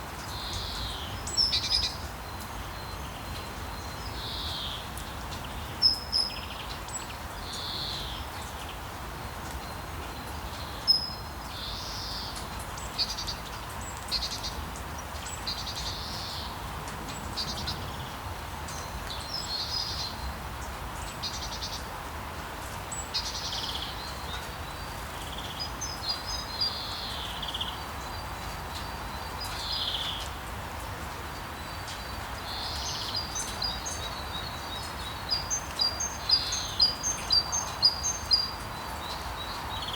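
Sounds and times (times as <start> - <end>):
small birds chirping: 0.2 - 22.0, 22.7 - 39.9.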